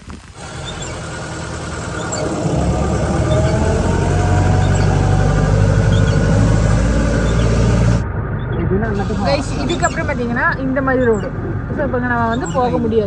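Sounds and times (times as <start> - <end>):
faint rising whine: 0.3 - 12.8
car engine running: 0.4 - 13.0.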